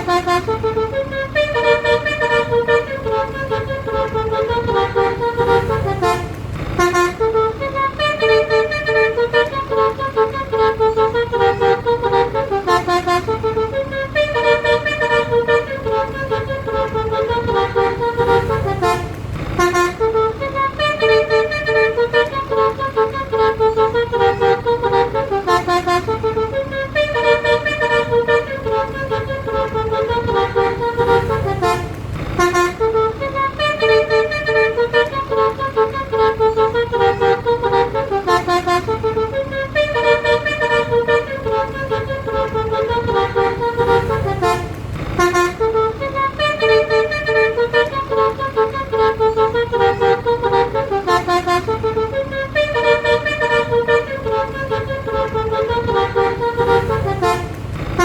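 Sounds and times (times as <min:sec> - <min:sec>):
bus engine rumbling: 0:00.0 - 0:58.0
bus musical horn playing a tune: 0:00.0 - 0:58.0.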